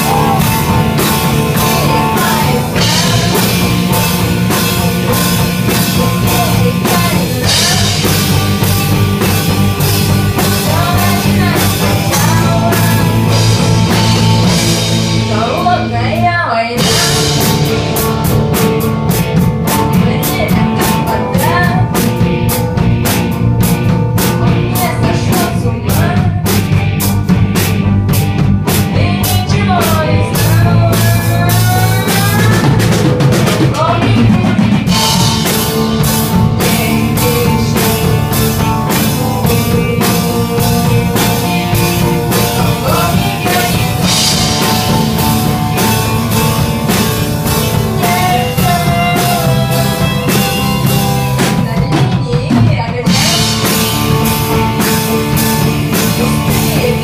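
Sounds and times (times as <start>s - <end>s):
girl singing: 0.0s - 14.2s, 15.3s - 18.1s, 19.7s - 22.1s, 24.4s - 26.5s, 28.9s - 32.9s, 33.6s - 57.0s
driving drum beat: 0.0s - 57.0s
rock band playing: 0.0s - 57.0s.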